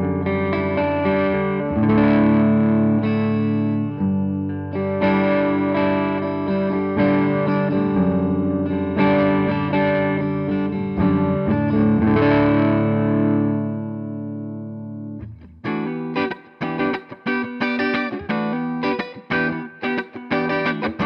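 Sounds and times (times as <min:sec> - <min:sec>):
electric guitar chords: 0:00.0 - 0:21.0.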